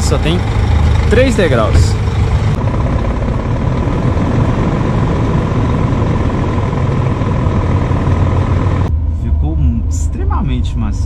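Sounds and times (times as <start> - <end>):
diesel truck engine idling: 0.0 - 9.5.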